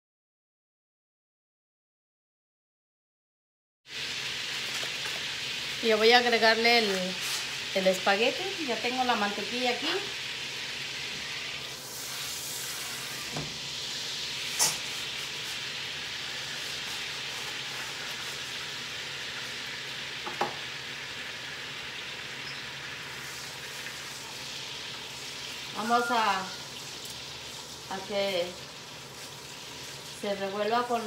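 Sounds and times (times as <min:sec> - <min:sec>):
pasta sizzling in butter: 0:03.9 - 0:31.0.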